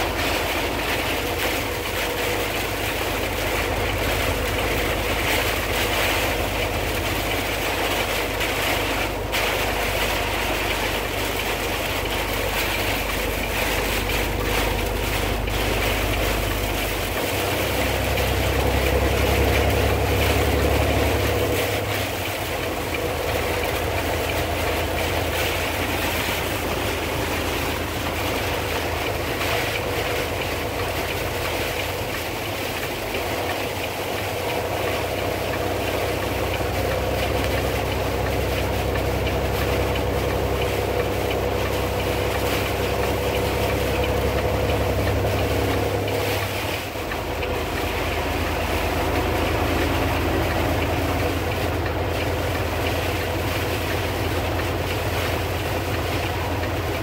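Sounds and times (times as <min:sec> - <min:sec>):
engine and road drone: 0:00.0 - 0:57.0
rain hitting windshield: 0:00.0 - 0:57.0.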